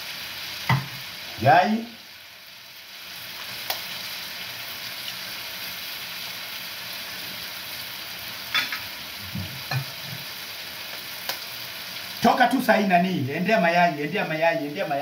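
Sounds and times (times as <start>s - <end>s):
food sizzling in pans: 0.0s - 15.0s.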